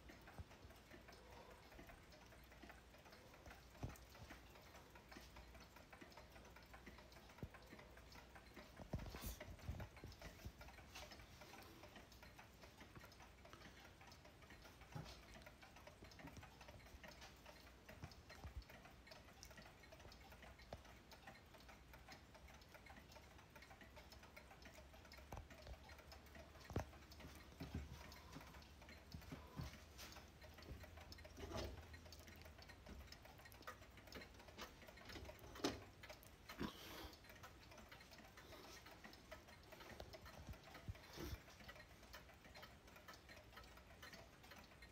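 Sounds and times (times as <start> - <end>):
clocks ticking: 0.0 - 44.9.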